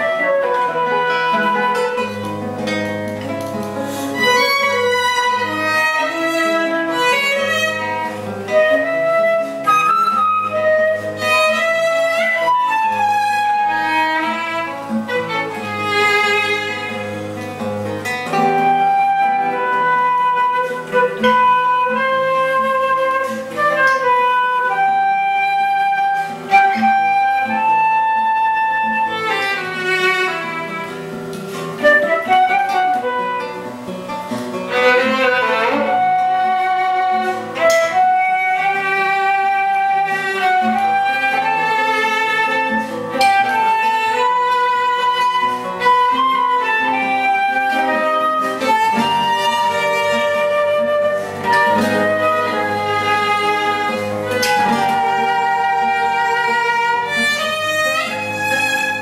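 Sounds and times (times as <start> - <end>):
flute: 0.0 - 59.0
plucked guitar notes: 0.0 - 59.0
violin: 0.0 - 59.0.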